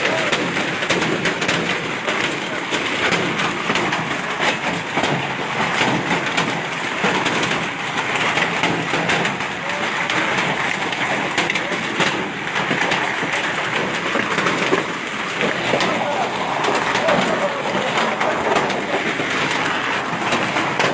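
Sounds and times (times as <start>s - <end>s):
hail and heavy rain pelting: 0.0s - 20.9s.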